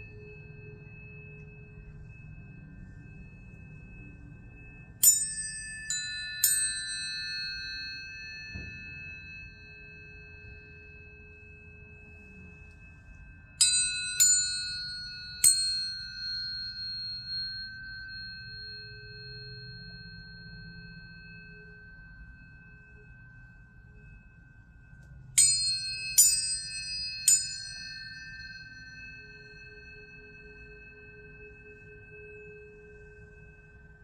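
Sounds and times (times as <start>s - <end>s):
tuning forks struck and ringing: 0.0s - 34.0s.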